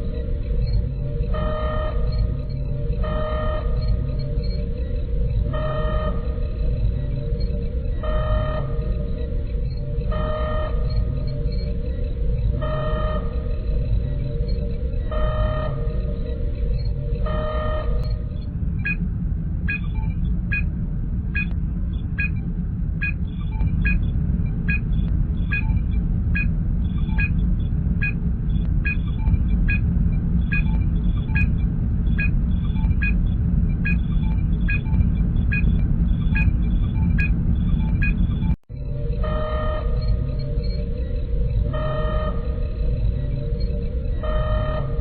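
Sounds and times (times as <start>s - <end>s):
low engine hum: 0.0s - 45.0s.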